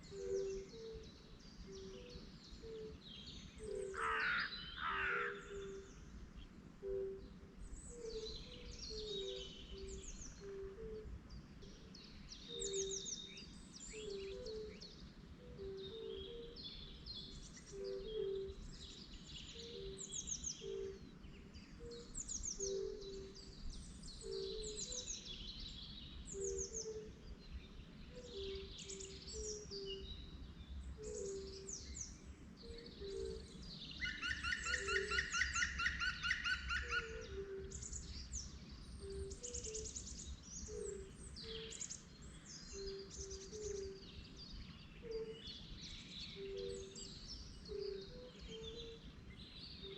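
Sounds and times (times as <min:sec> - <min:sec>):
birds chirping and singing: 0:00.0 - 0:06.0, 0:06.8 - 0:49.9.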